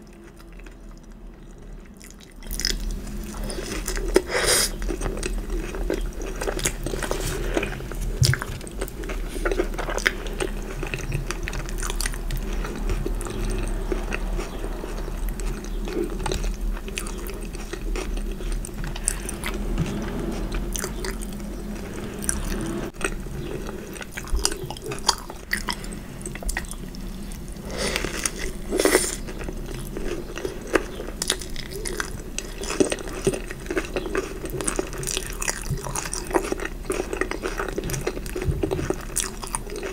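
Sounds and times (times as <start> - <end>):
chewing and crunching: 0.0 - 39.9
low steady hum: 0.0 - 39.9.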